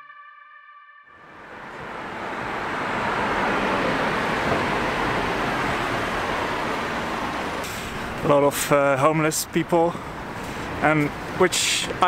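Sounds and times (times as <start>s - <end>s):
city street traffic: 1.2s - 12.0s.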